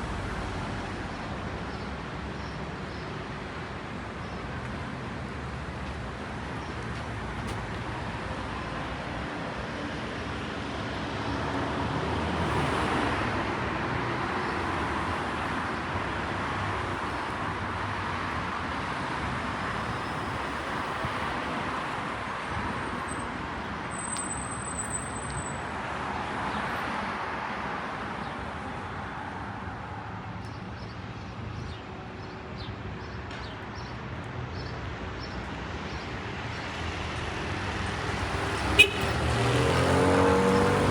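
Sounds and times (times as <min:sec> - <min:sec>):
cars passing: 0:03.3 - 0:40.9.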